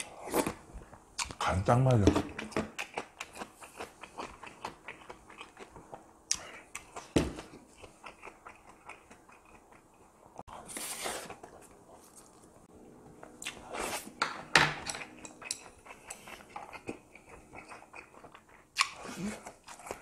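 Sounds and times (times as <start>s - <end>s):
chewing and mouth noises: 2.4s - 14.0s, 14.8s - 20.0s.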